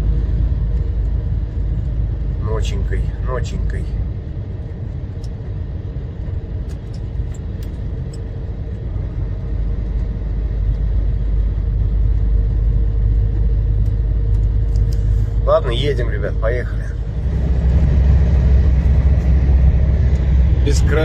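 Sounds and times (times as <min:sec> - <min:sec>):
truck engine and road noise: 0:00.0 - 0:21.0.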